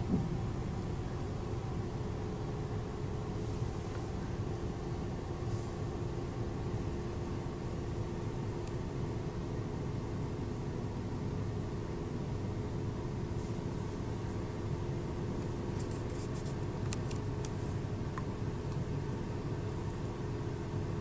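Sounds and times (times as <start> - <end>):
car engine rumbling: 0.0 - 9.6, 12.6 - 21.0.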